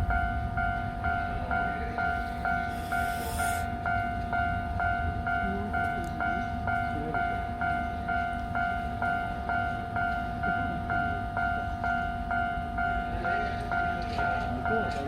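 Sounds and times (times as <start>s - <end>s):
level-crossing alarm ringing: 0.1s - 15.0s.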